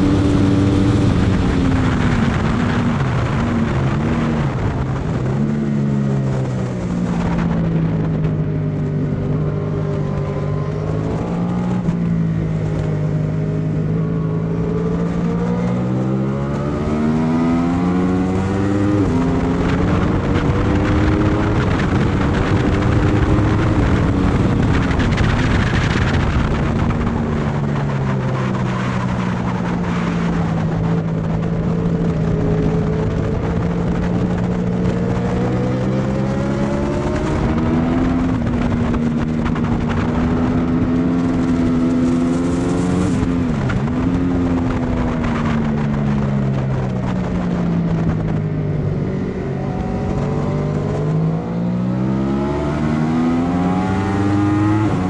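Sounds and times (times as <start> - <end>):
motorcycle engine revving: 0.0 - 55.0
wind rushing: 0.0 - 55.0.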